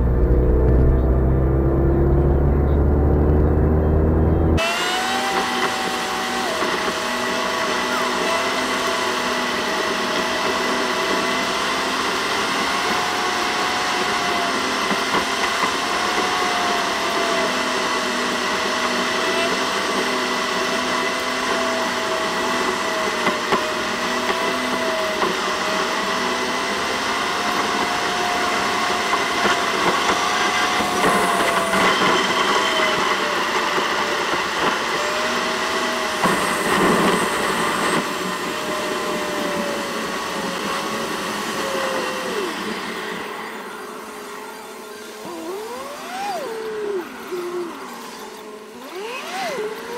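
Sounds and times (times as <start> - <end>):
high-pitched machine-like whine: 0.0 - 49.9.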